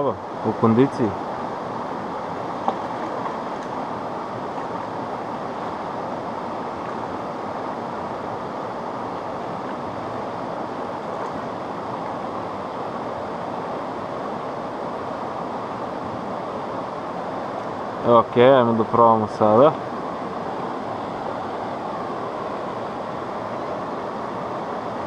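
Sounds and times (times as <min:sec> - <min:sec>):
river water rushing through rapids: 0:00.0 - 0:25.0.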